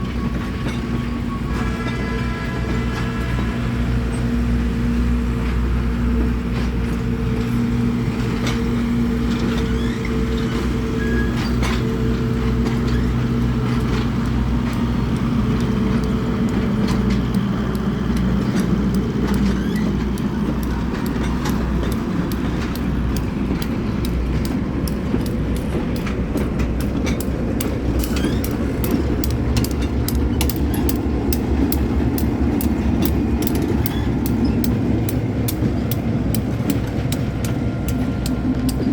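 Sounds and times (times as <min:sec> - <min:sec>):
train engine hum and rumble: 0:00.0 - 0:38.9.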